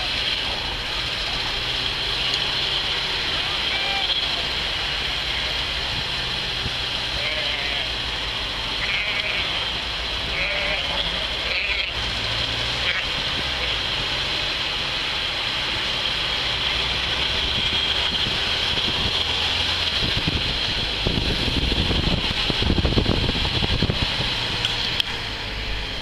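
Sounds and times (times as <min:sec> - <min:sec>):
car road and wind noise: 0:00.0 - 0:26.0.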